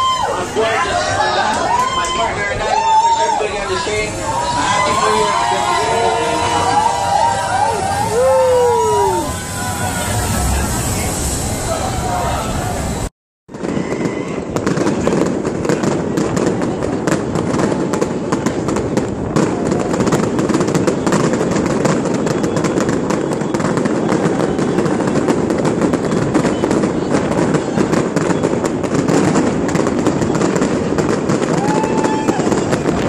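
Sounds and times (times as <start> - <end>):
fireworks popping and crackling: 0.0 - 33.0.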